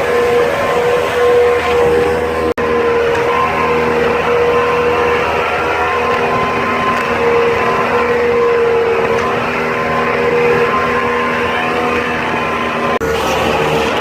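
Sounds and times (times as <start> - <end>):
speedboat engine droning: 0.0 - 14.0.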